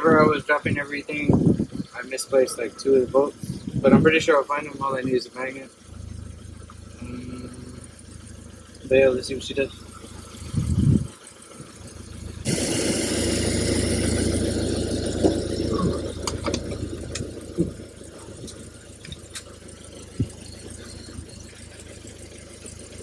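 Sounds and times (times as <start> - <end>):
car engine starting and idling: 0.0 - 23.0.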